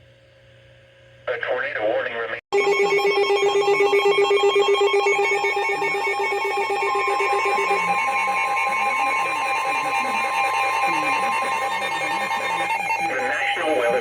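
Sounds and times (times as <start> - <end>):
steady high tone: 2.5 - 14.0
pulsing buzzing alert tone: 2.6 - 14.0.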